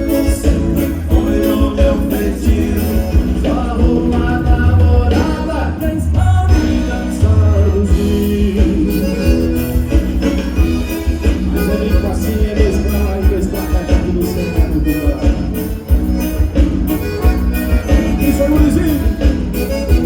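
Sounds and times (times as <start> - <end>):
accordion: 0.0 - 20.0
heavy bass line: 0.0 - 20.0.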